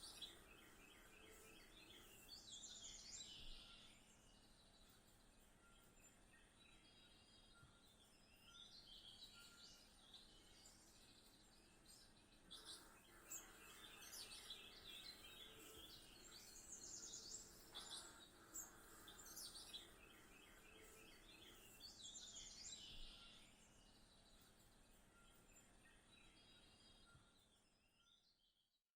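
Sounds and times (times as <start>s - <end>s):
low background hiss: 0.0s - 27.9s
birds chirping through tv speakers: 0.0s - 28.5s.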